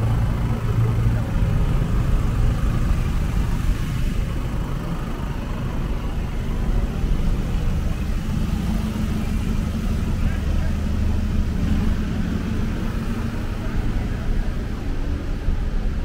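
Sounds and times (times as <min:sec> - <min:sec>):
car engines rumbling past: 0:00.0 - 0:16.0.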